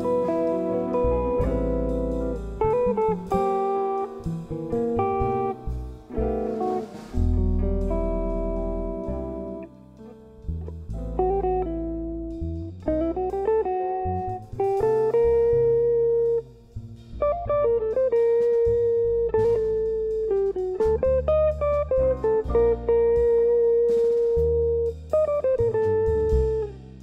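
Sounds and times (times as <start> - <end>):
electric guitar melody: 0.0 - 27.0
light drums: 0.0 - 27.0
piano: 0.0 - 27.0
upright bass: 0.0 - 27.0.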